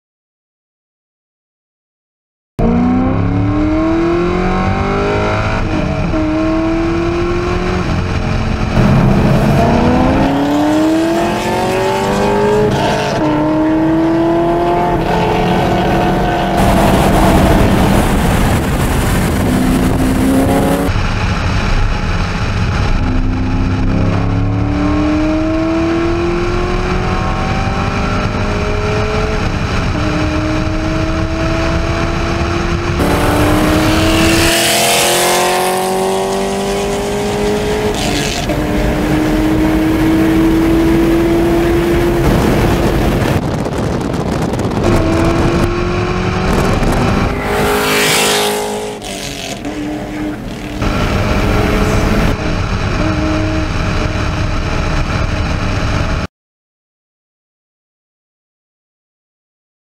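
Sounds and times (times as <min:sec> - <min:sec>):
car engine accelerating through gears: 0:02.6 - 0:56.3
wind and road noise: 0:02.6 - 0:56.3.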